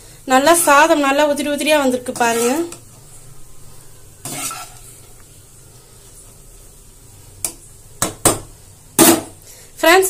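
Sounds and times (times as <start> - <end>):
faint steady hum: 0.0 - 2.1, 2.7 - 10.0.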